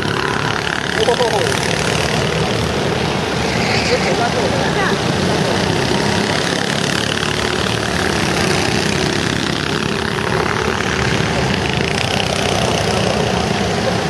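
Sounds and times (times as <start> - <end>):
go-kart engines running: 0.0 - 14.0.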